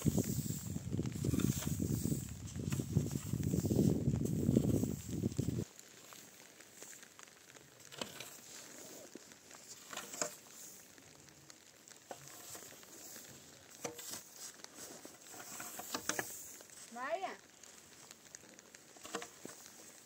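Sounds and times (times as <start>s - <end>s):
soft hiss: 0.0s - 20.0s.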